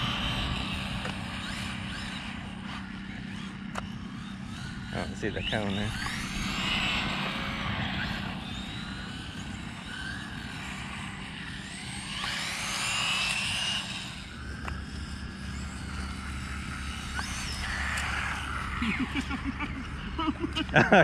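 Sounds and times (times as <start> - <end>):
toy car electric motors whining: 0.0 - 21.0.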